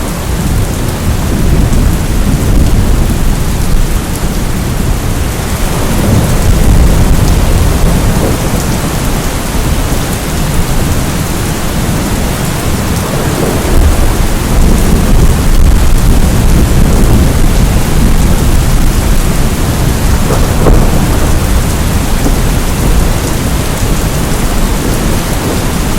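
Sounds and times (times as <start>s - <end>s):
heavy steady rain: 0.0s - 25.9s
low rumbling thunder: 0.0s - 25.9s.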